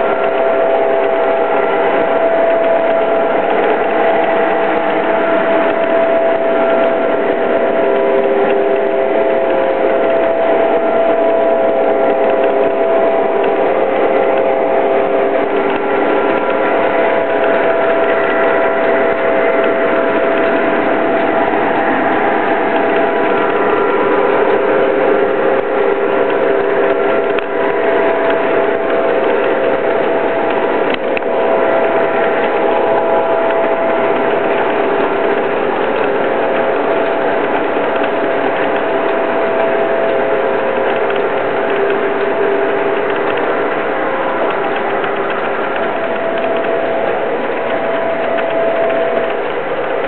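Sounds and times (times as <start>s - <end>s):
model train clattering: 0.0s - 50.0s
steady motor whine: 0.0s - 50.0s.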